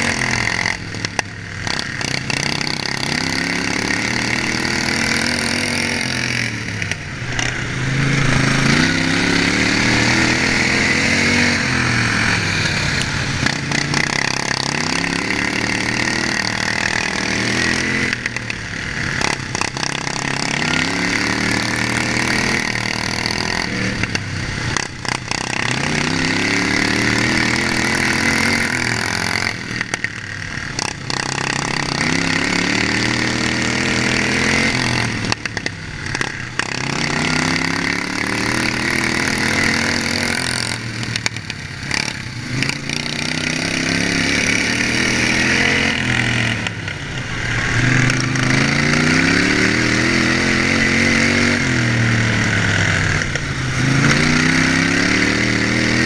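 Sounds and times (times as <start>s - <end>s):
racing lawn mower engine revving: 0.0s - 56.0s.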